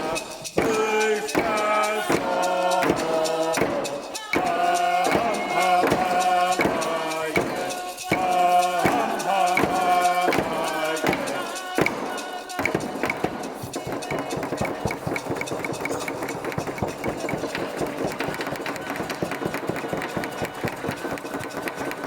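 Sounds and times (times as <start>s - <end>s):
drum beats: 0.0s - 22.0s
men chanting in unison: 0.0s - 22.0s.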